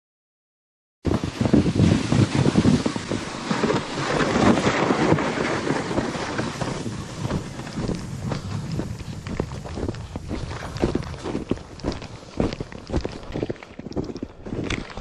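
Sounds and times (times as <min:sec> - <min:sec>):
wind buffeting microphone: 0:01.1 - 0:15.0.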